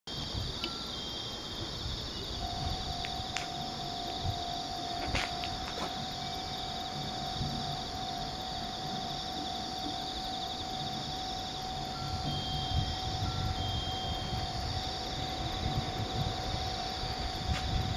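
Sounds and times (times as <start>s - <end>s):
freight train high whine: 0.1s - 17.9s
insect drone: 0.1s - 17.9s
train low rumble: 0.1s - 17.9s.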